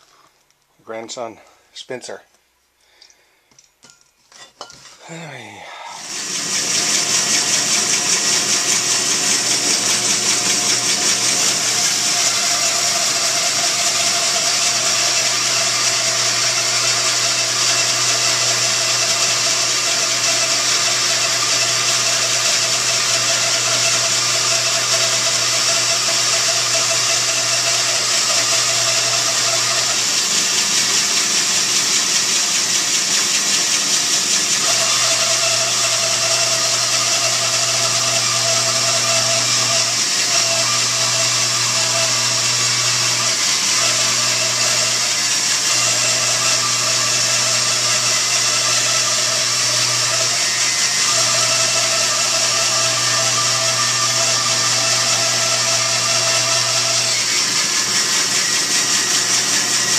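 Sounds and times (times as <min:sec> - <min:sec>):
bandsaw hissing through wood: 0:05.0 - 0:59.9
bandsaw motor hum: 0:05.1 - 0:59.9.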